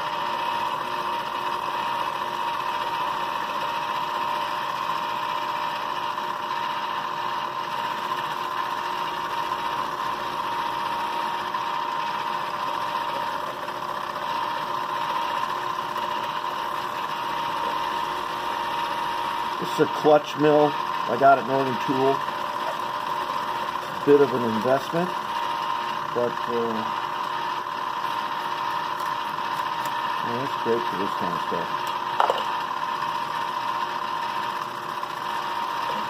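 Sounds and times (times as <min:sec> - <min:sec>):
milling machine whine: 0:00.0 - 0:36.0.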